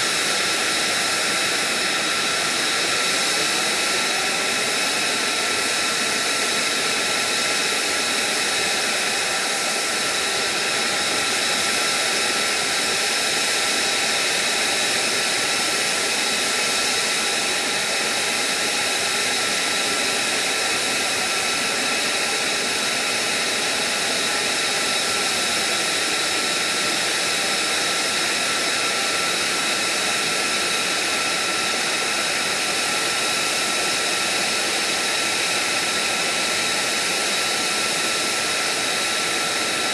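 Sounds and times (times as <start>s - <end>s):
high-pitched engine whine: 0.0s - 39.9s
jet engine idling: 0.0s - 39.9s.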